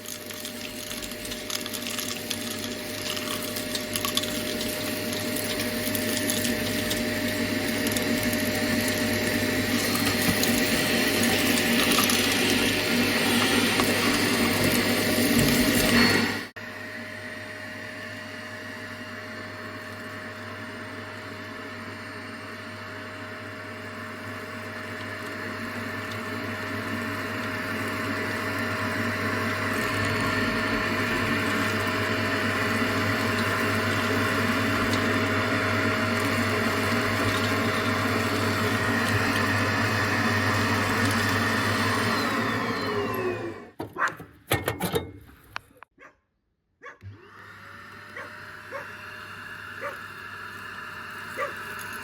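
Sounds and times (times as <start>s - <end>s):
vacuum cleaner motor whine: 0.0s - 43.8s, 47.0s - 52.0s.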